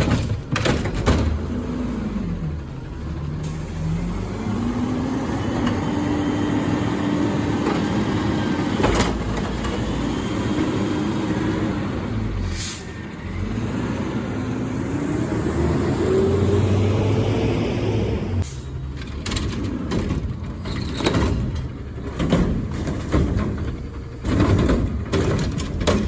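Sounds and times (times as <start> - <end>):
diesel engine revving: 0.1 - 25.9.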